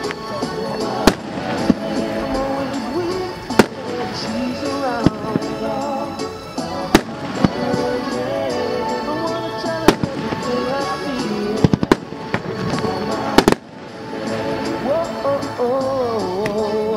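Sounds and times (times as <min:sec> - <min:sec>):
fireworks bangs: 0:00.0 - 0:16.8
music with singing voice: 0:00.0 - 0:16.9.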